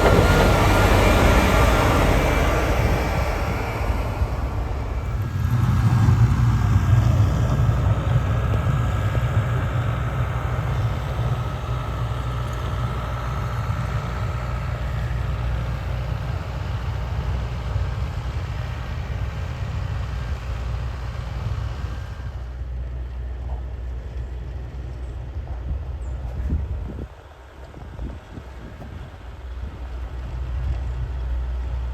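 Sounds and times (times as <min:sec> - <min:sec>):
truck engine rumbling: 0:00.0 - 0:31.9.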